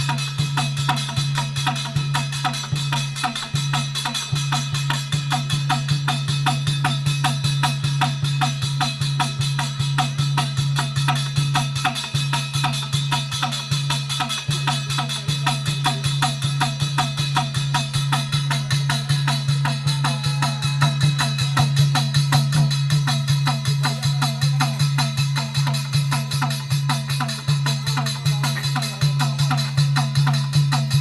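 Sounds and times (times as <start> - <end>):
twanging percussion rhythm: 0.0 - 31.0.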